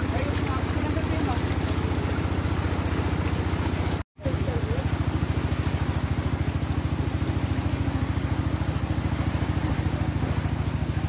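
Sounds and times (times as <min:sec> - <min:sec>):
small boat engine chugging: 0:00.0 - 0:11.0.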